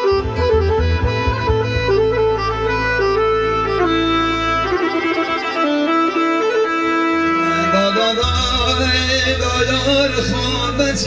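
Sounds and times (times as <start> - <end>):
keyboard folk melody: 0.0 - 11.0
low bass line: 0.0 - 11.0.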